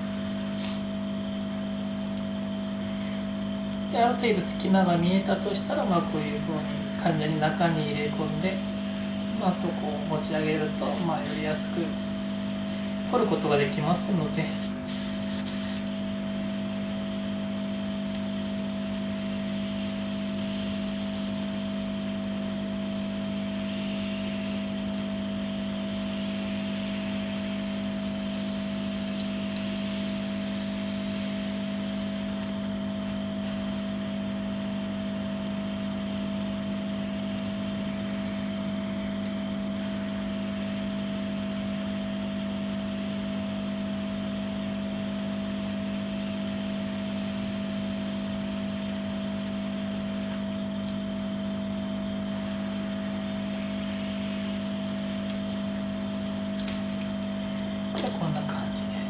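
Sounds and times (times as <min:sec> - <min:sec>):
heat gun fan hum: 0:00.0 - 0:59.0.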